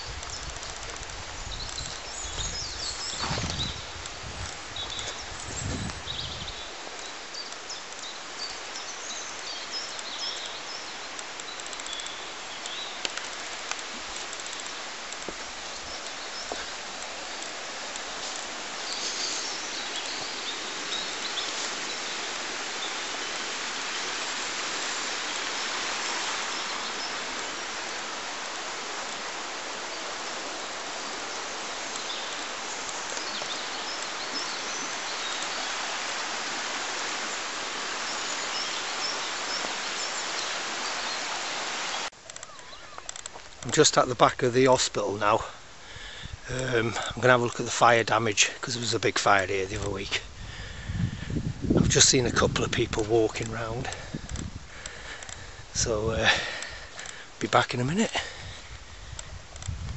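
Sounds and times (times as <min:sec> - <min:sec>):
river running over stones: 0:00.0 - 0:45.9, 0:46.5 - 0:50.4, 0:51.6 - 0:59.7
birds chirping: 0:00.0 - 0:59.2.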